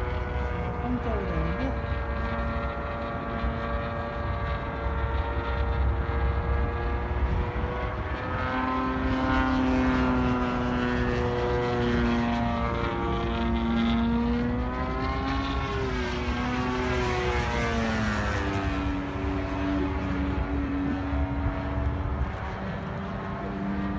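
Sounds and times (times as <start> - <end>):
model airplane engine drone: 0.0 - 23.9.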